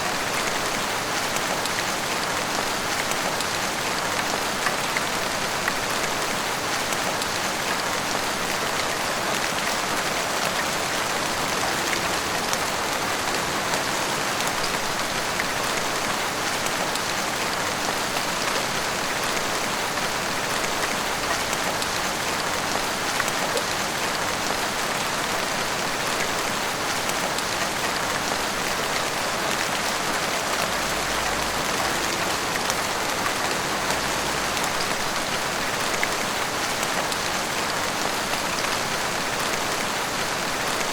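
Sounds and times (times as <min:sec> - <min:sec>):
heavy rain drumming on roofs: 0:00.0 - 0:40.9.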